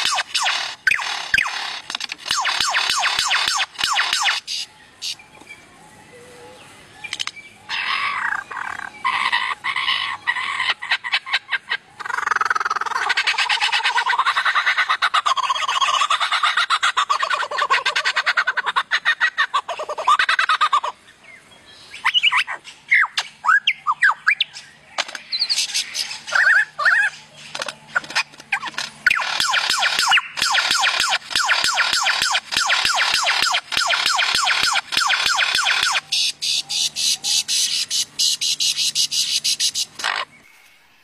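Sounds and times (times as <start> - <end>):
bird chattering song: 0.0 - 40.8.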